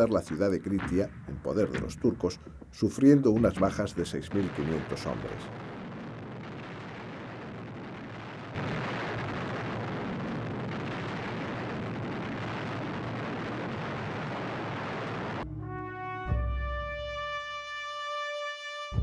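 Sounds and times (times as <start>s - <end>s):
rumbling roar of explosions: 0.0s - 15.4s.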